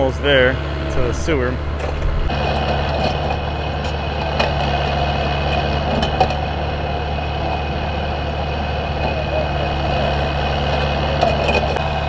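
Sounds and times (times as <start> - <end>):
excavator diesel engine running: 0.0 - 12.0
hydraulic whine: 0.0 - 12.0.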